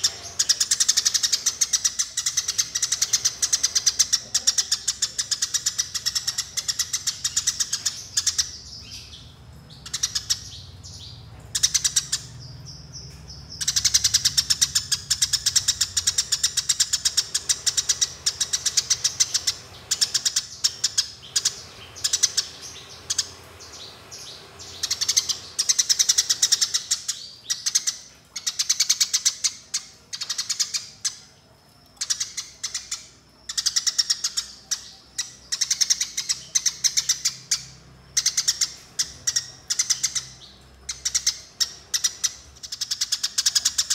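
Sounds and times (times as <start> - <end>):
sparrow rapid chirping chatter: 0.0 - 31.4, 32.0 - 43.9.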